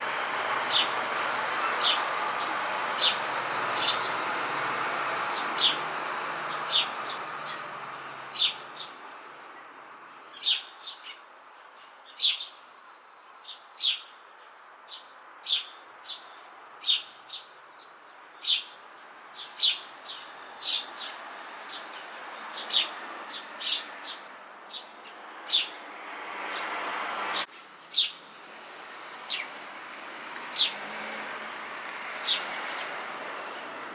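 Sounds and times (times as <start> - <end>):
sparrow chirping: 0.6 - 30.8, 31.4 - 33.7.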